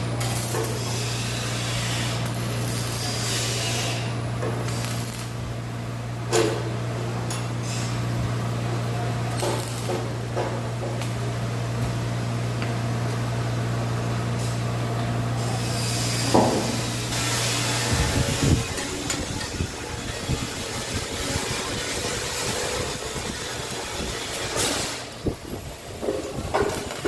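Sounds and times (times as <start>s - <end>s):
welding machine humming: 0.0s - 27.0s.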